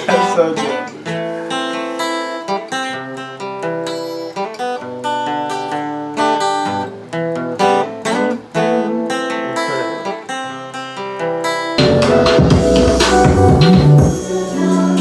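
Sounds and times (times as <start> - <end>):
acoustic guitar picking: 0.0 - 15.0
guitar strummed chords: 0.0 - 15.0.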